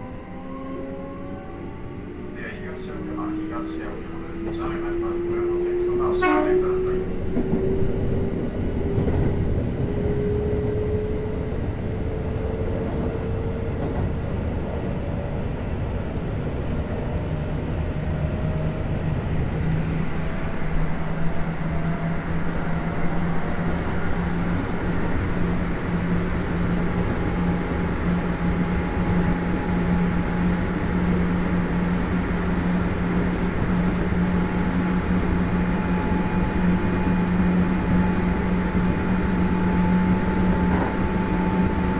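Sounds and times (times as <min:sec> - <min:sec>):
wheels rumbling on rail: 0:00.0 - 0:41.9.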